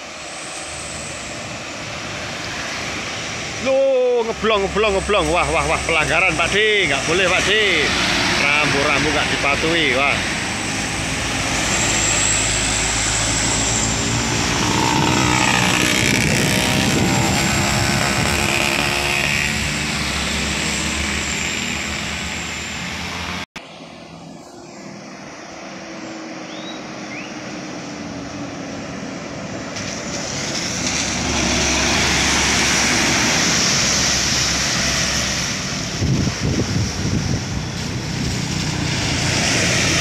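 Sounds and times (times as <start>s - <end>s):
diesel trucks passing: 0.0s - 40.0s
tanker truck diesel engine approaching: 0.0s - 40.0s.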